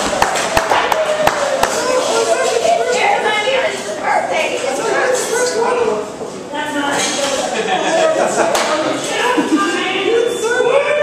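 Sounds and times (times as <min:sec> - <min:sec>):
people talking and calling out: 0:00.0 - 0:11.0.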